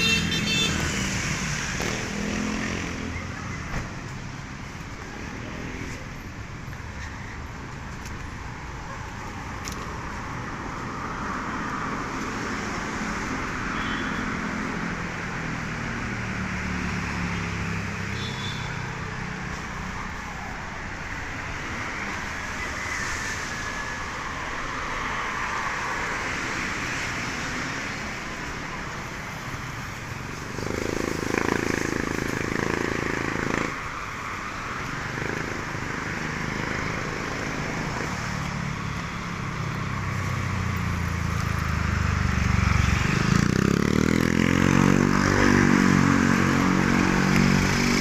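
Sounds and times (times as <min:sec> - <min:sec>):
vehicles passing: 0:00.0 - 0:48.0.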